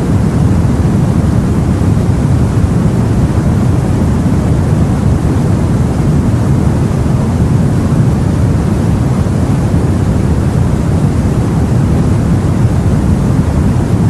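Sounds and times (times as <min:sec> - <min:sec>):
deep rumbling wash of sea: 0:00.0 - 0:14.0.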